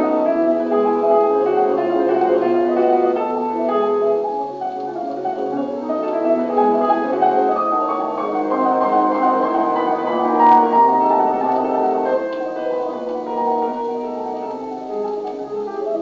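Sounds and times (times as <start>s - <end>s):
piano played on gramophone: 0.0s - 16.0s.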